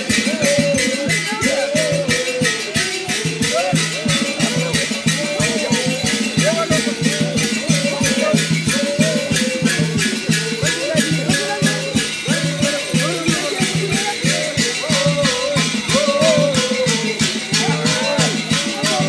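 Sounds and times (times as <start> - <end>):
people singing: 0.0 - 19.0
shakers or rattles beat: 0.0 - 19.0.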